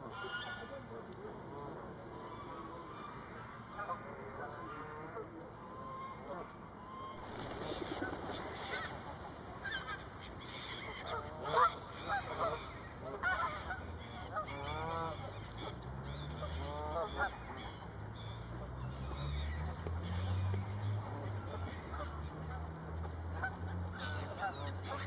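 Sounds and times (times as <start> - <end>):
geese honking: 0.0 - 0.8, 1.6 - 25.0.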